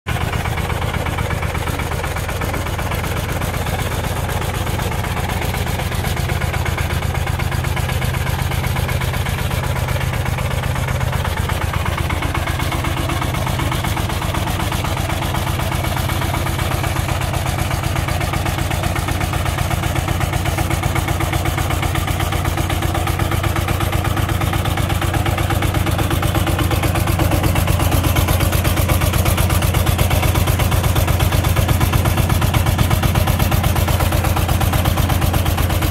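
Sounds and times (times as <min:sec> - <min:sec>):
small engine running: 0:00.1 - 0:35.9.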